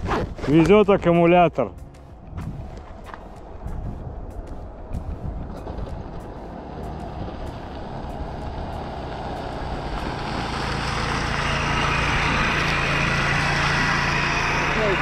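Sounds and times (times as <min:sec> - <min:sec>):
vehicle engine approaching: 0:01.2 - 0:15.0.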